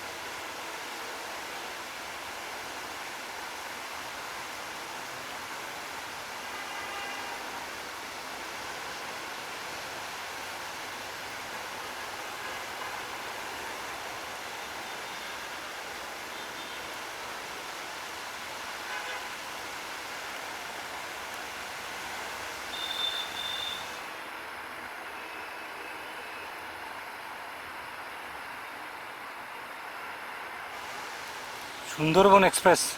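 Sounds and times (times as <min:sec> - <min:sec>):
heavy rain hissing: 0:00.0 - 0:32.9.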